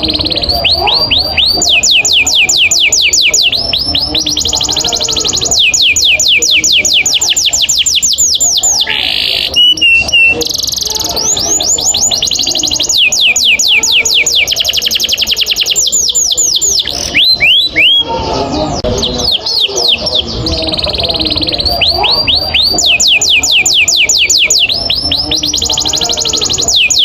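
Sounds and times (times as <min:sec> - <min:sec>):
canary singing trills: 0:00.0 - 0:27.0.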